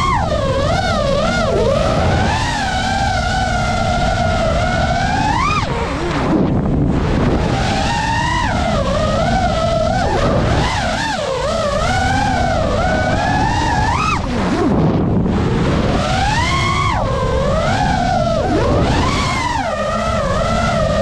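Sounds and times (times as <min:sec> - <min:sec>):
drone motors whining: 0:00.0 - 0:21.0
rush of air noise: 0:00.0 - 0:21.0.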